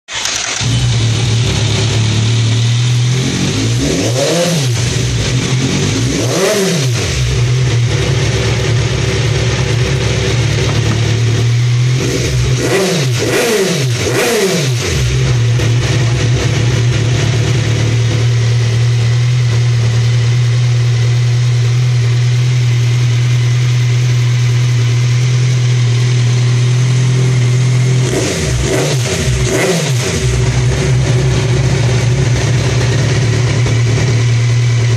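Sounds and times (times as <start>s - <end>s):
motorcycle engine idling and revving: 0.1s - 34.9s.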